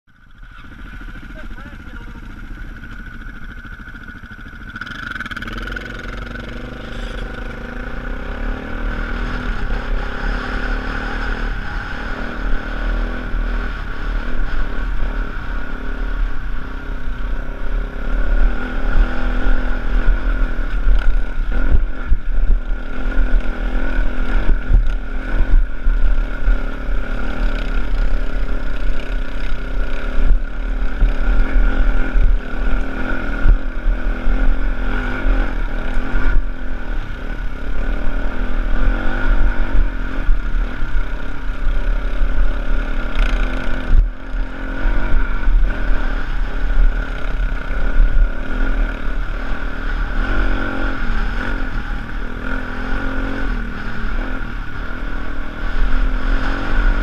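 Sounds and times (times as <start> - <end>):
wind rumble on microphone: 6.2 - 57.0.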